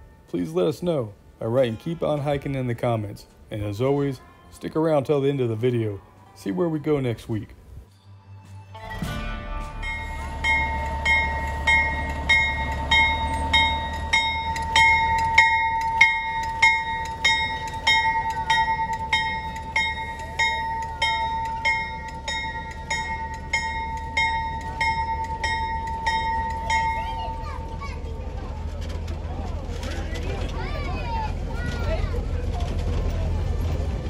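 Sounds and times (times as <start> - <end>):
locomotive rumbling past: 0.0 - 34.0.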